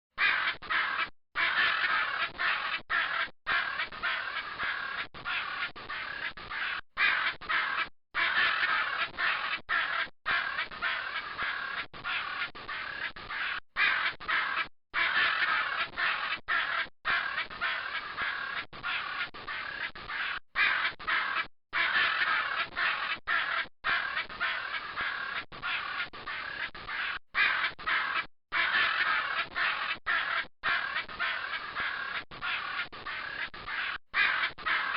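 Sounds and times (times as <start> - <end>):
macaws squawking: 0.2 - 34.9.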